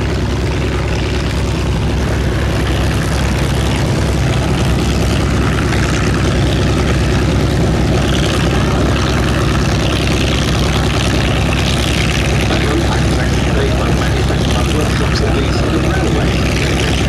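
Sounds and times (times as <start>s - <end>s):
propeller aircraft engine droning: 0.0s - 17.0s.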